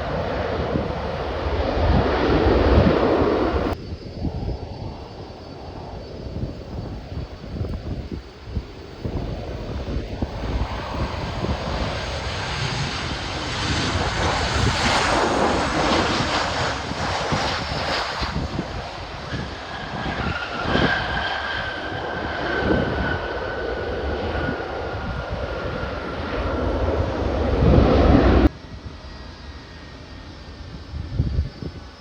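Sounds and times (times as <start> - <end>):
high jet engine whine: 0.0 - 32.0
jet airliner passing: 0.0 - 32.0.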